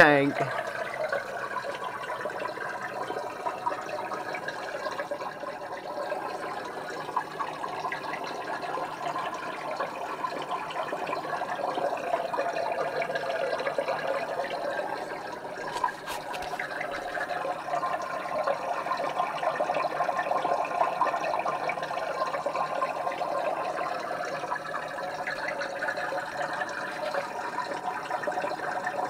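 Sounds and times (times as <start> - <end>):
bubbling trickling water: 0.0 - 29.0.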